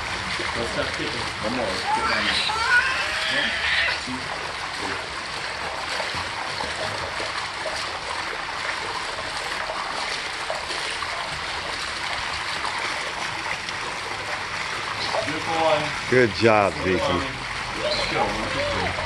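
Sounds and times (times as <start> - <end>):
light water splashing: 0.0 - 19.0
water rushing into pool: 0.0 - 19.0.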